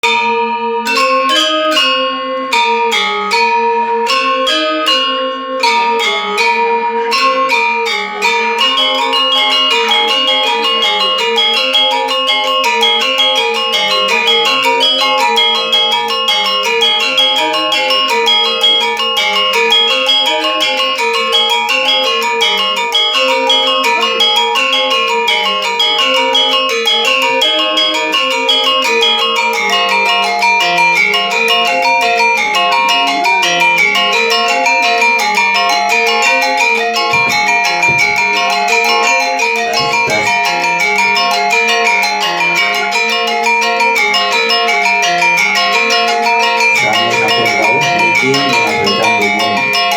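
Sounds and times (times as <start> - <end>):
gamelan metallophone music: 0.0 - 49.9.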